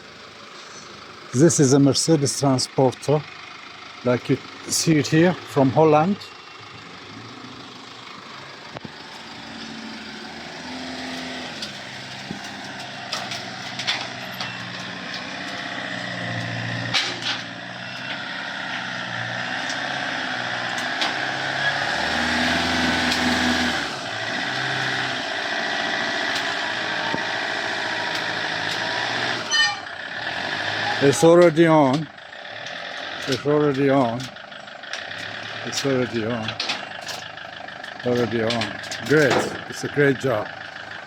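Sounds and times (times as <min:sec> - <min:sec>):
diesel van engine revving: 0:00.0 - 0:41.0.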